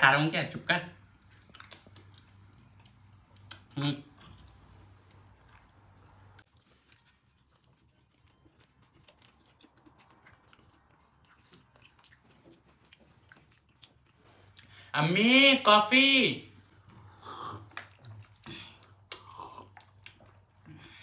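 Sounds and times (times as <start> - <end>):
person chewing food: 1.2 - 14.9, 16.7 - 21.0.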